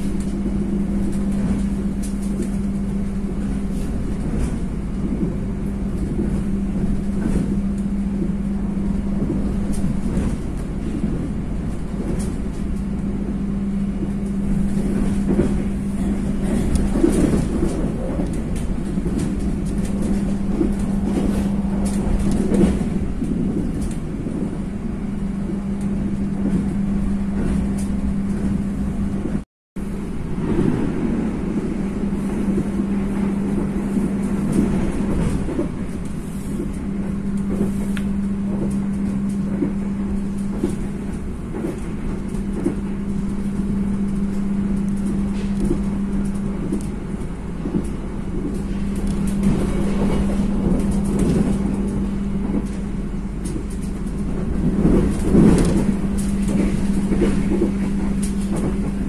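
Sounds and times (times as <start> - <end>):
constant hum: 0.0 - 59.0
train rumbling: 0.0 - 59.0.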